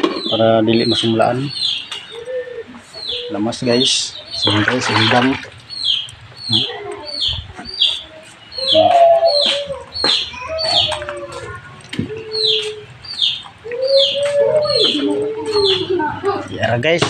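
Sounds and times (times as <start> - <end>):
small bird chirping: 0.0 - 16.5.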